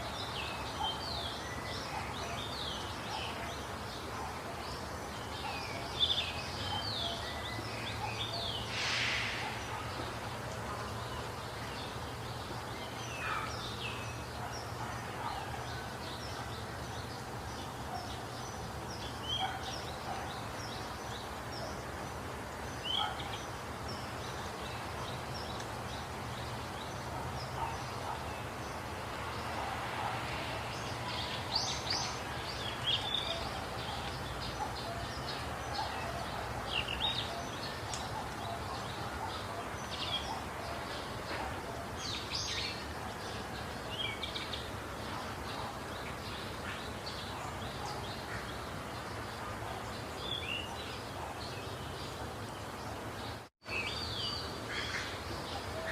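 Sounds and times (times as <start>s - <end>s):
background hiss: 0.0s - 55.9s
birds chirping: 0.0s - 55.9s.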